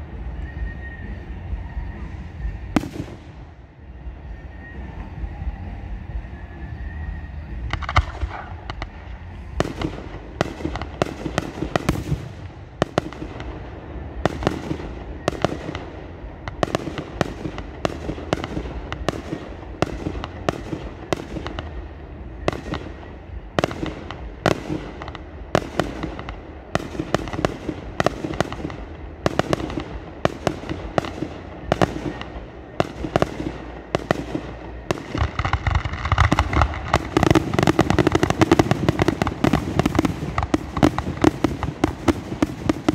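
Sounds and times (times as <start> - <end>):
firework bangs: 0.0 - 42.9.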